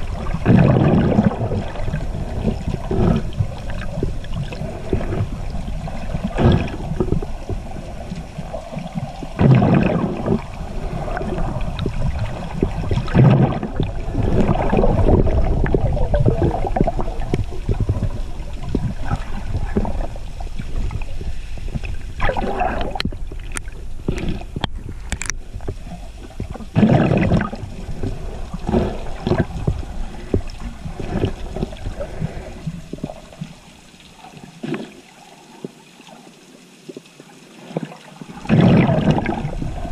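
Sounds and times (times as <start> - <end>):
underwater rumble and sloshing: 0.0 - 39.9.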